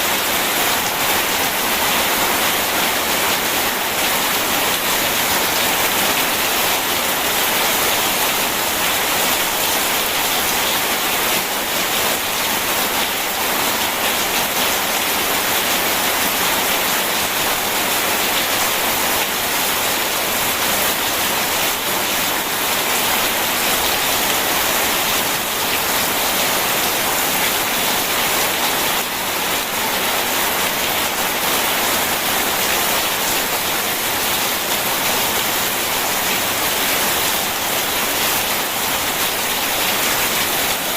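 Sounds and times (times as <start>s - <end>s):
rain: 0.0s - 40.9s.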